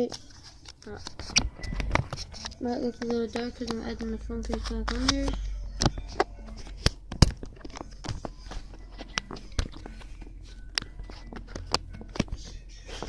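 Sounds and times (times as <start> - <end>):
phone case clicking and tapping: 0.6 - 12.5.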